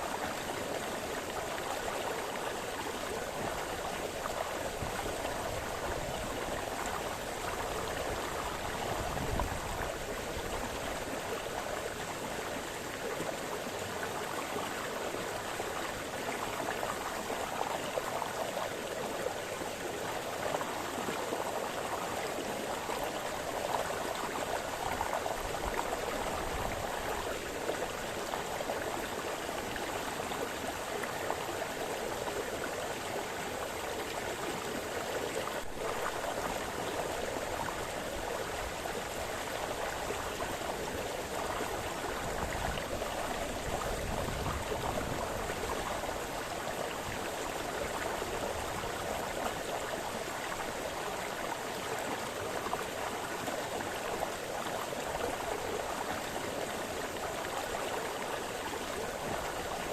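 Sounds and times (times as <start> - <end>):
brook burbling over stones: 0.0 - 59.9.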